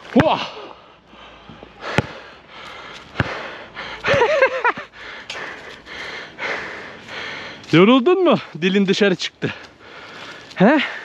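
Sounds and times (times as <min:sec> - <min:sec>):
man panting heavily: 0:00.4 - 0:08.6, 0:09.4 - 0:11.0.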